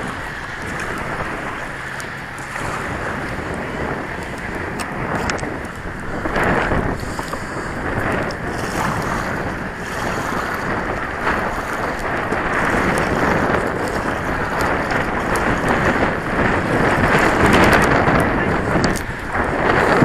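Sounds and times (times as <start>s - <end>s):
water lapping against hull: 0.0s - 20.0s
wind across microphone: 0.0s - 20.0s.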